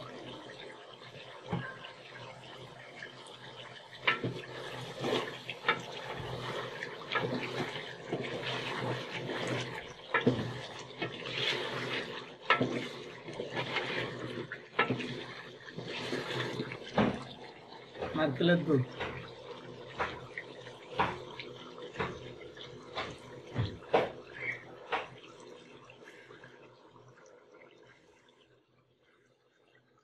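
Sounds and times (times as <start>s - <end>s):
liquid sloshing in a pot: 0.0s - 30.0s.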